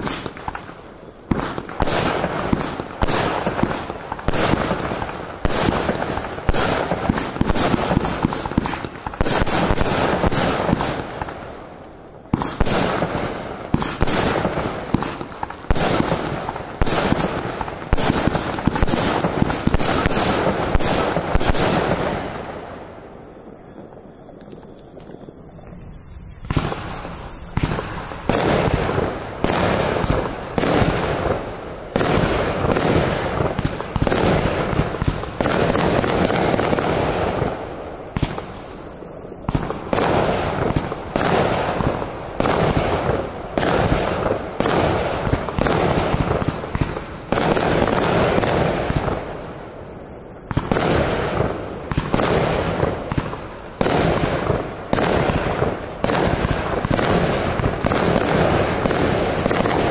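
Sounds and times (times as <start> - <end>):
fireworks launch reports and bursts: 0.0 - 59.9.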